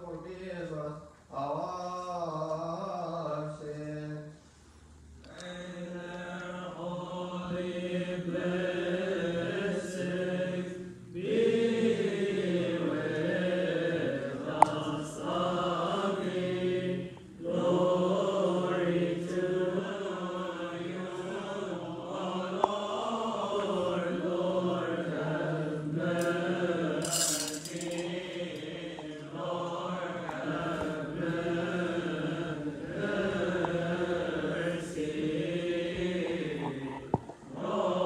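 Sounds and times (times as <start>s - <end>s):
liturgical chanting: 0.0s - 4.5s, 5.2s - 38.0s.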